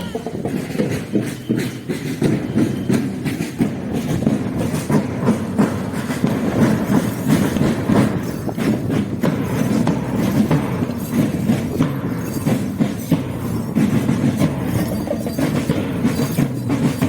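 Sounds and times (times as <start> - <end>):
marching drum cadence: 0.0 - 17.0.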